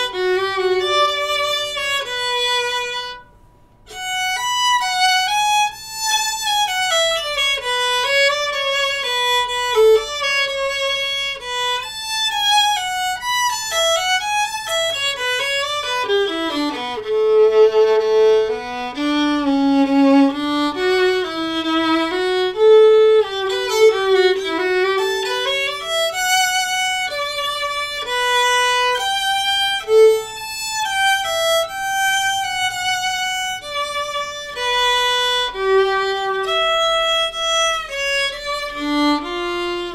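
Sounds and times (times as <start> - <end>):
solo violin playing fast runs: 0.0 - 3.3, 3.9 - 39.9.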